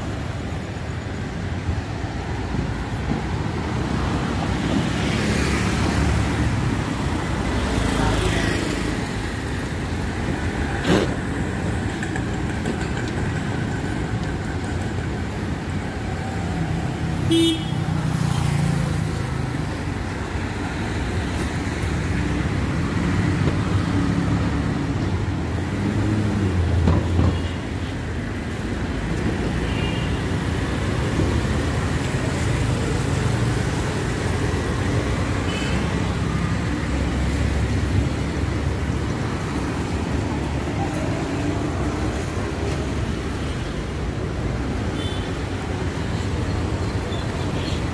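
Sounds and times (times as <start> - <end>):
road traffic: 0.0 - 47.9.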